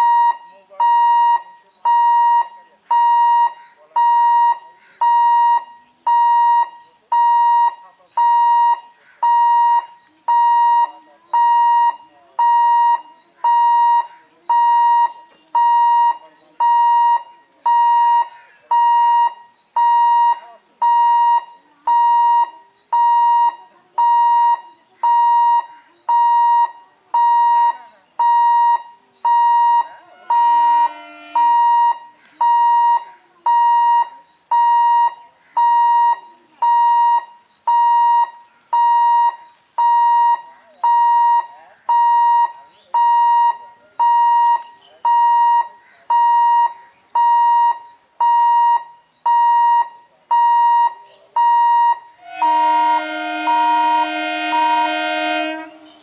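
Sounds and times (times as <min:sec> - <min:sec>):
level crossing alarm beeping: 0:00.0 - 0:56.0.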